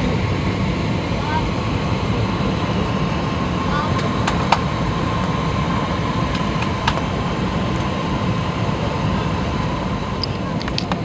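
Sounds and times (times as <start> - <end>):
airplane cabin engine rush: 0.0 - 11.0
faint steady whine: 0.0 - 11.0.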